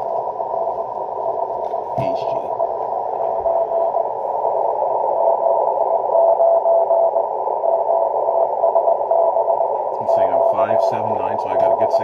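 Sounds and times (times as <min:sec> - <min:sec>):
radio band hiss: 0:00.0 - 0:06.1, 0:08.4 - 0:12.0.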